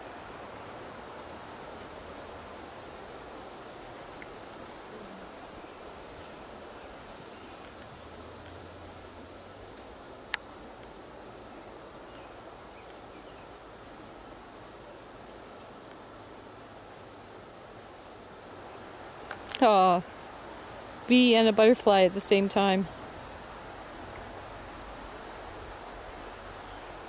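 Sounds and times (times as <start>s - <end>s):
rustling hiss: 0.0s - 27.0s.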